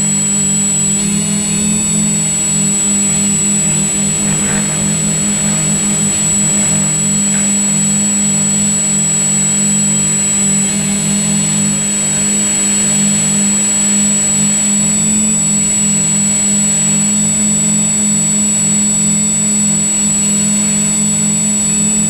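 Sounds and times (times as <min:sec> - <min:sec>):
drone propellers humming: 0:00.0 - 0:22.0
high steady whine: 0:00.0 - 0:22.0.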